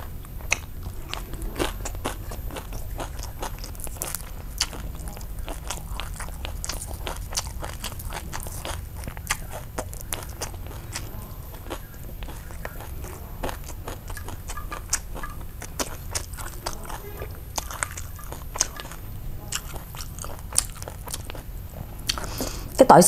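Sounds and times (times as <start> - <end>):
crunchy chewing: 0.0 - 22.7
steady low hum: 0.0 - 23.0.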